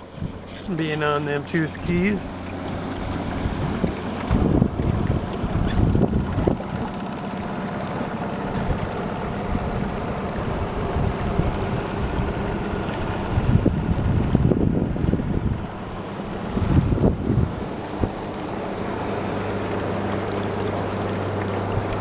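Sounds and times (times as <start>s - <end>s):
outboard motor running: 0.0s - 22.0s
wind buffeting microphone: 1.8s - 22.0s.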